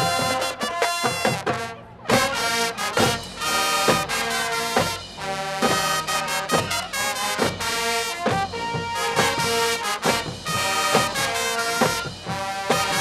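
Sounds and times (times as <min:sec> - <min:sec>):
brass chords: 0:00.0 - 0:13.0
sharp drum strokes: 0:00.0 - 0:13.0.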